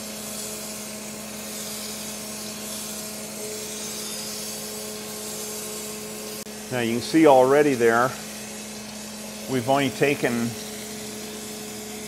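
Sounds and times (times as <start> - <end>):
grinding wheel hiss: 0.0 - 12.0
steady machine tone: 0.0 - 12.0.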